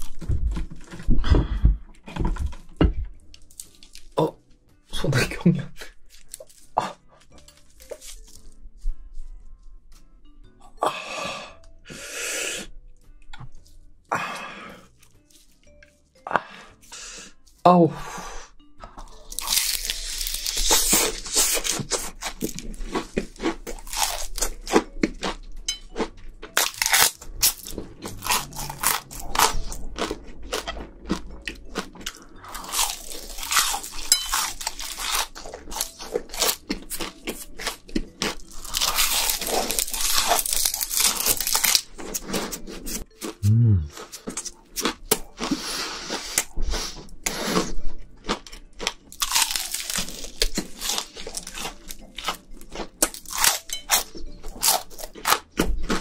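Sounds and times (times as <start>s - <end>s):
crunching and chewing: 0.0s - 4.4s, 5.8s - 8.6s, 12.6s - 17.6s, 18.9s - 56.0s.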